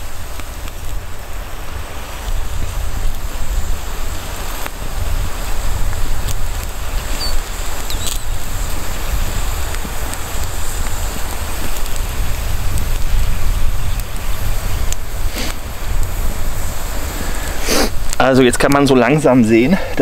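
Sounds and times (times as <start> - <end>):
campfire hissing and crackling: 0.0 - 20.0
wind rumble on microphone: 0.0 - 20.0.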